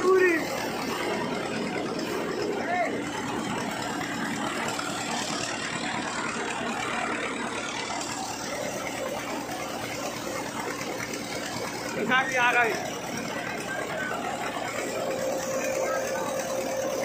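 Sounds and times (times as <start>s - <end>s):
thresher running: 0.0s - 17.0s
tractor engine running: 0.0s - 17.0s.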